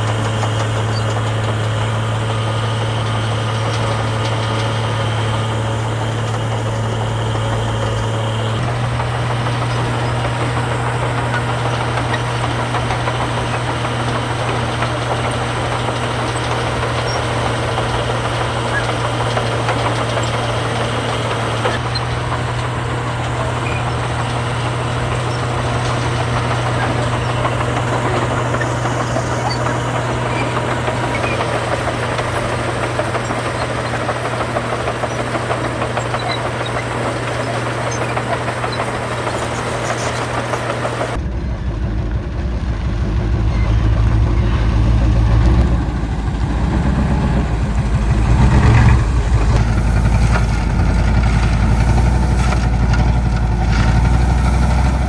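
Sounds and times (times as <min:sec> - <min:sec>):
deep loud engine: 0:00.0 - 0:55.0
heavy diesel engines running: 0:00.0 - 0:55.0.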